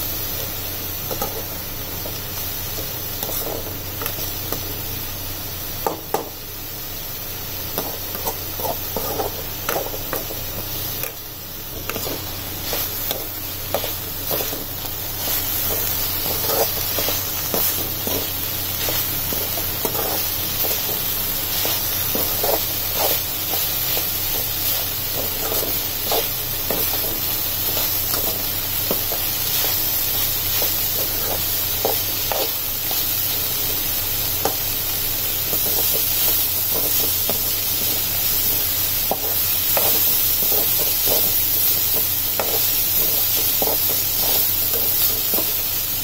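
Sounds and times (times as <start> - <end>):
vegetables sizzling in pan: 0.0 - 46.0.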